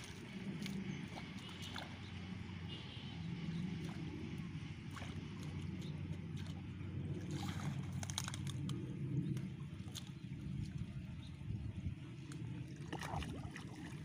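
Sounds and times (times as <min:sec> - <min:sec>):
low hum: 0:00.0 - 0:14.0
water sloshing and splashing: 0:00.0 - 0:14.0.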